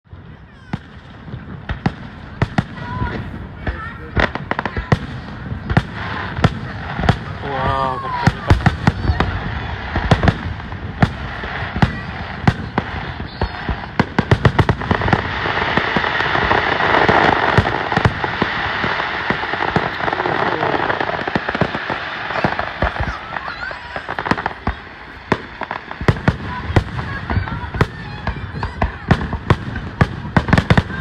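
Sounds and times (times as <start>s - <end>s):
fireworks bursting with bangs: 0.1s - 31.0s.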